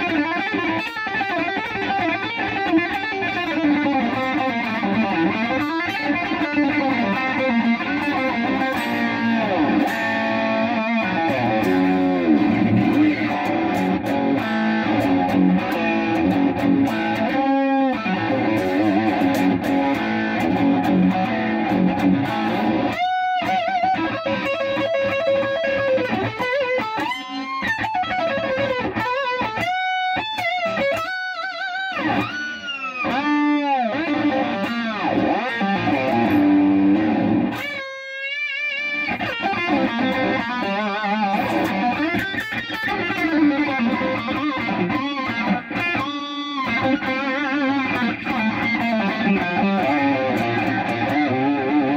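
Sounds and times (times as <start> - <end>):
electric guitar lead with vibrato: 0.0 - 51.9.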